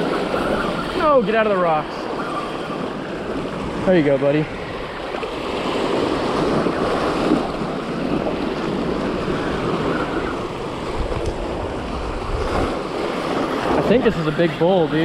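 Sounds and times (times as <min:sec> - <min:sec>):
surf splashing against rocks: 0:00.0 - 0:15.0
wind buffeting microphone: 0:00.0 - 0:15.0.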